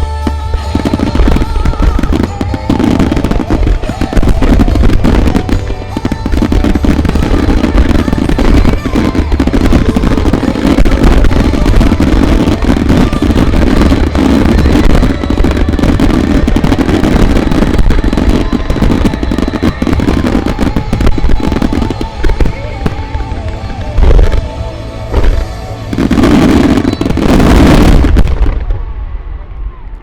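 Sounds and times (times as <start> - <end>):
music from loudspeakers: 0.0 - 28.6
fireworks bursting and crackling: 0.0 - 30.0.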